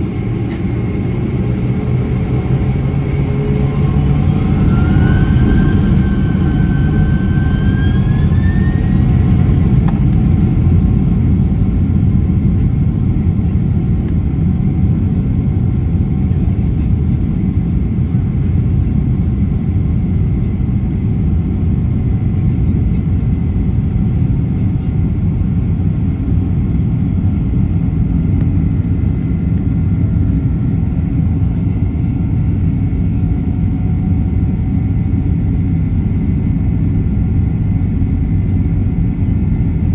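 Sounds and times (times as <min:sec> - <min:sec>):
jet engine rumble in cabin: 0:00.0 - 0:39.9
jet engine whine: 0:00.0 - 0:39.9.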